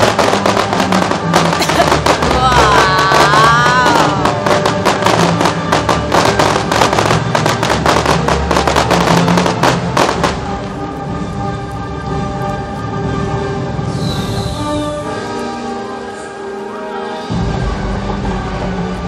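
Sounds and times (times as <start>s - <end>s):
fireworks crackling: 0.0s - 19.0s
music: 0.0s - 19.0s.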